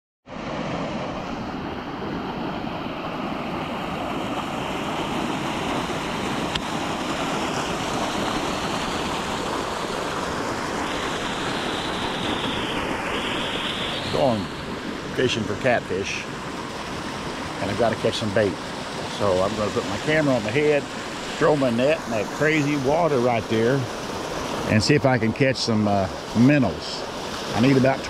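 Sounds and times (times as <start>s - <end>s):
creek water rushing: 0.3s - 28.0s.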